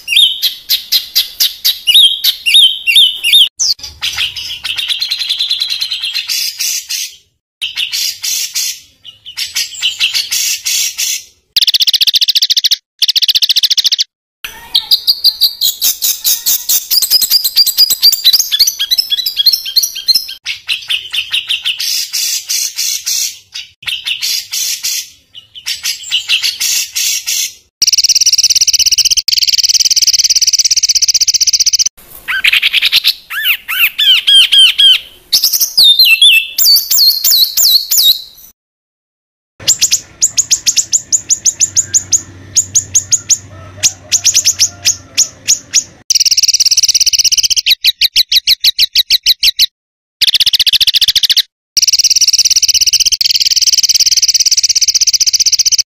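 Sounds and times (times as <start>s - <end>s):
songbird singing harsh rapid phrases: 0.0s - 38.5s, 39.6s - 55.8s.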